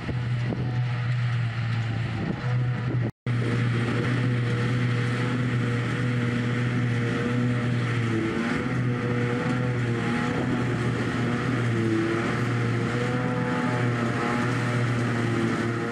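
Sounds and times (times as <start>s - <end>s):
constant rushing noise: 0.0s - 15.9s
steady engine drone: 0.0s - 15.9s.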